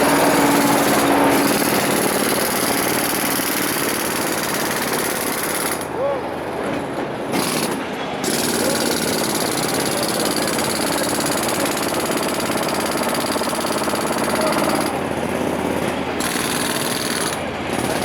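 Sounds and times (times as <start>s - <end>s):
jackhammer hammering: 0.0s - 5.9s, 7.3s - 18.0s.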